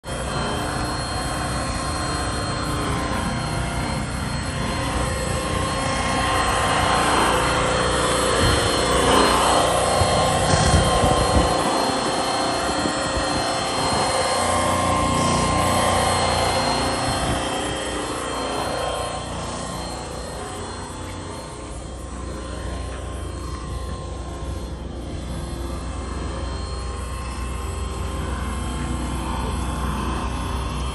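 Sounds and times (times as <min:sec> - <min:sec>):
polisher motor whirring: 0:00.1 - 0:30.9.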